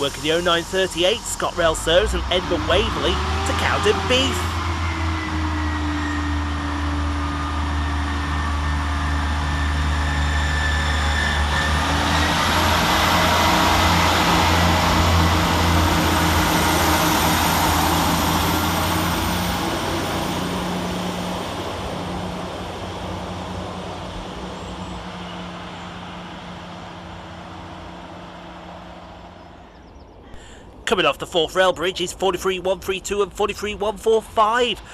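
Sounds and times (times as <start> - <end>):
diesel train passing: 0.0 - 34.9.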